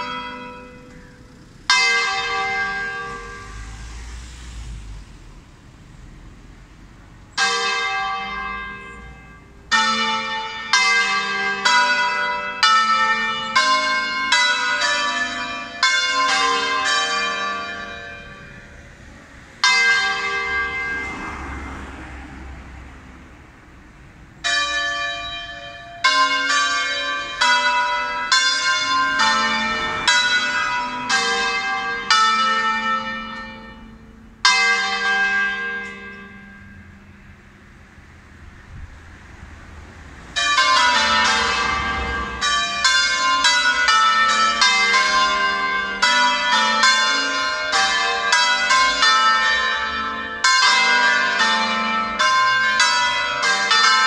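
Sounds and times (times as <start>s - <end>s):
church bells ringing: 0.0s - 4.9s, 7.4s - 23.0s, 24.3s - 37.9s, 40.2s - 54.0s.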